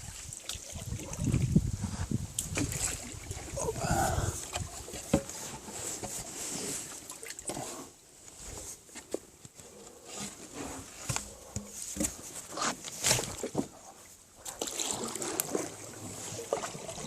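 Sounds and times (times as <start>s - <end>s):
water splashing around boat hull: 0.0s - 9.2s, 10.2s - 17.0s.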